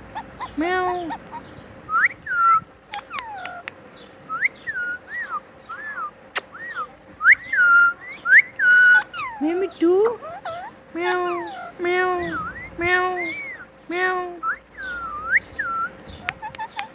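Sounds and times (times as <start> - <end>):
parrot whistling: 0.1 - 3.7, 4.3 - 13.8, 14.4 - 16.9.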